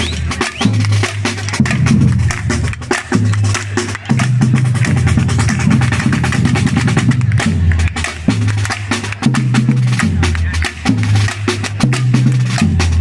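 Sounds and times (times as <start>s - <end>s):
booming low drums: 0.1s - 13.0s.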